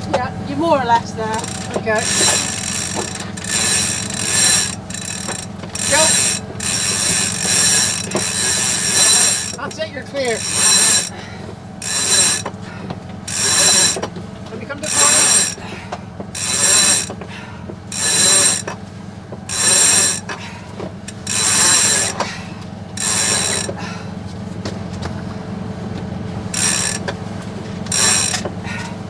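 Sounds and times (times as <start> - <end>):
low engine hum: 0.0 - 29.0
winch ratcheting: 0.9 - 23.9, 26.5 - 29.0.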